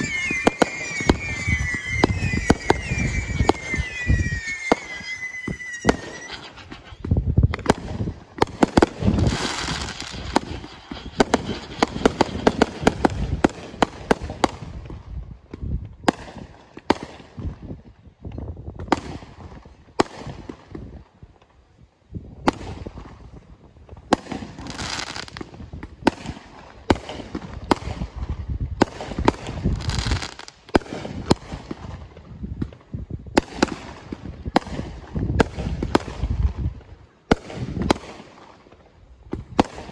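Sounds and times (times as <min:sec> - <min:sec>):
fireworks launching and bursting: 0:00.0 - 0:17.8, 0:22.2 - 0:39.9.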